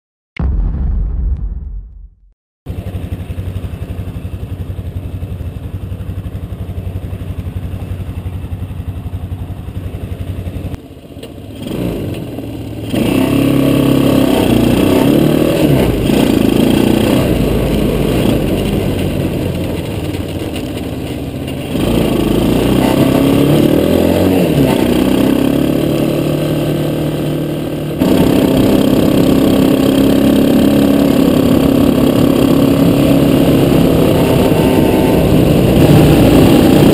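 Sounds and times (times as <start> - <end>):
quad bike engine revving: 6.4 - 36.9.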